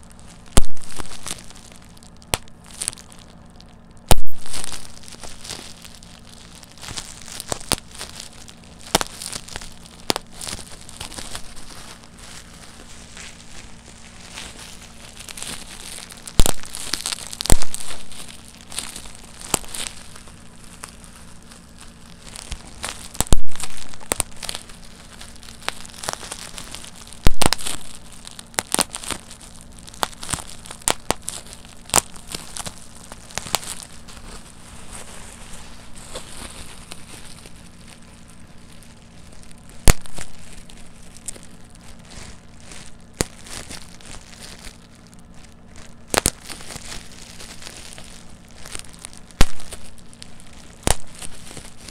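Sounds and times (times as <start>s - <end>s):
bubble wrap popping: 0.0s - 51.9s
plastic sheet crinkling: 0.0s - 51.9s.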